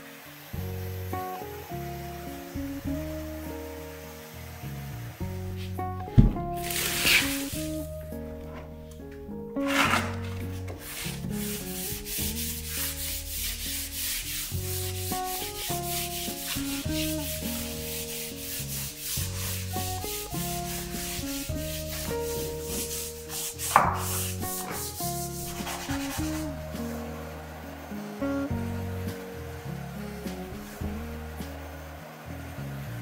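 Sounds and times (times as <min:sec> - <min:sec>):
soft background music: 0:00.0 - 0:33.0
dryer sheet rubbing on trim: 0:00.2 - 0:08.0, 0:09.6 - 0:28.0, 0:28.6 - 0:32.0.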